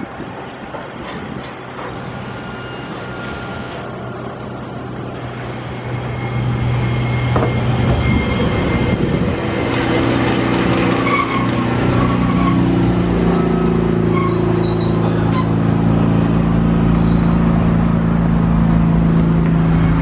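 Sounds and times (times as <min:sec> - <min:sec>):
tram electric hum and rumble: 0:00.0 - 0:20.0
tram motor tones: 0:00.0 - 0:20.0.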